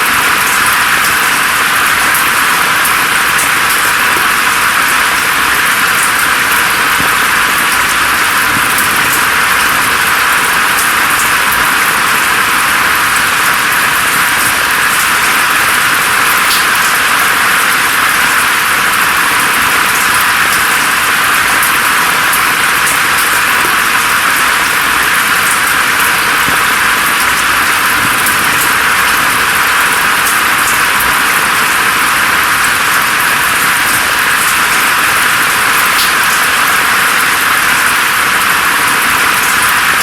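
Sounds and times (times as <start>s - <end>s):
raindrop ticks: 0.0s - 40.0s
steady rainfall hiss: 0.0s - 40.0s.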